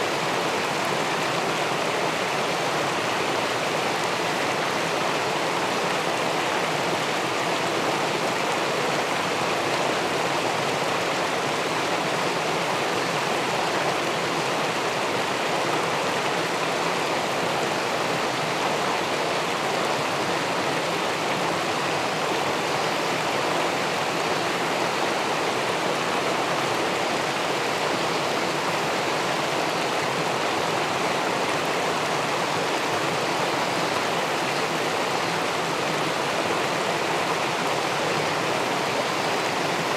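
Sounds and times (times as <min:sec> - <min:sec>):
river water rushing over weir: 0:00.0 - 0:39.9.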